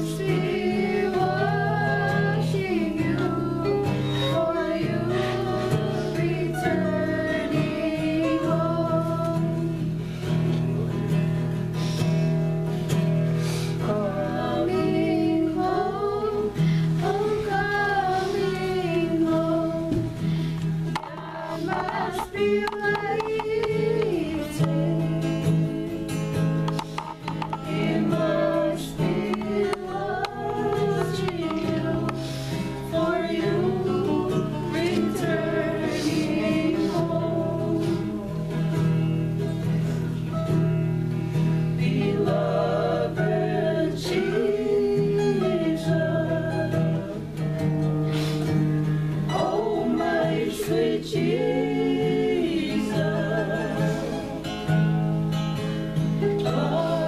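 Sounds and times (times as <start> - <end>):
group singing a hymn: 0.0 - 11.2, 12.9 - 40.1, 41.3 - 57.0
strummed acoustic guitar: 0.0 - 57.0.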